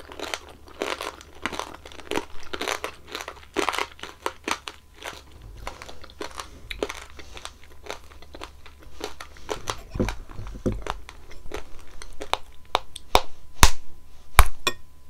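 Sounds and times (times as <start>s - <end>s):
candied fruit crunching while chewed: 0.0s - 13.8s.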